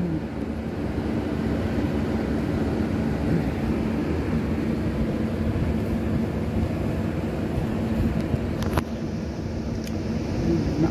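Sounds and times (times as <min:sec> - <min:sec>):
fan whirring: 0:00.0 - 0:10.9
low hum: 0:00.0 - 0:10.9.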